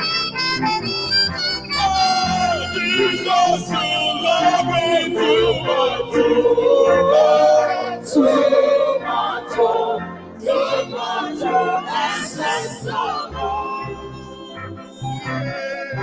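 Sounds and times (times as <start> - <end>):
instrumental backing: 0.0 - 16.0
choir singing: 1.8 - 16.0.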